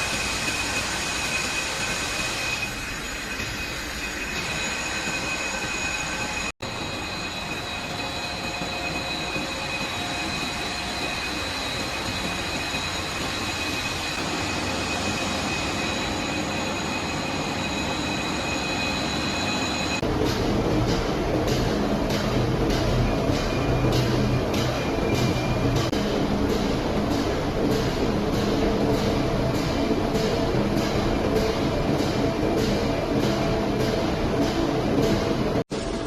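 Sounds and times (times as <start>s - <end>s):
high-pitched machine whines: 0.0s - 36.0s
production-line machinery running: 0.0s - 36.0s.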